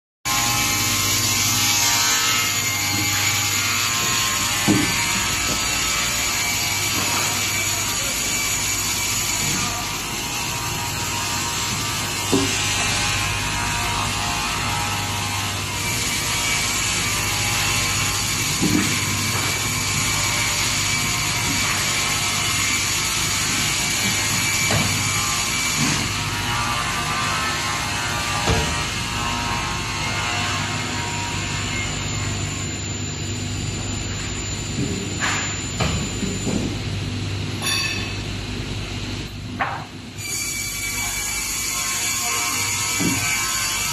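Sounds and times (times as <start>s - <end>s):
high machine whine: 0.3s - 43.9s.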